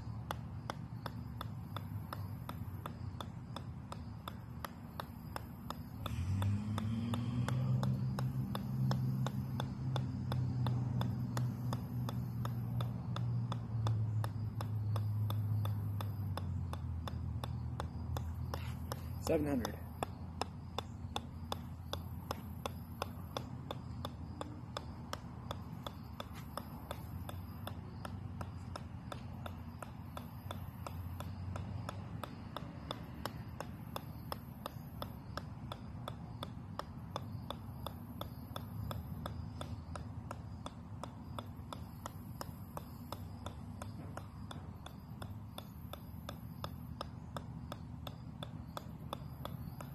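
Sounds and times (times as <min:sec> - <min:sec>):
golf ball bouncing on metal: 0:00.0 - 0:49.9.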